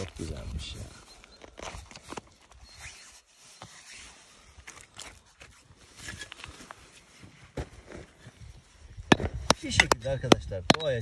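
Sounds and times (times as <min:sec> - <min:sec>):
rock and soil scraping: 0:00.0 - 0:11.0.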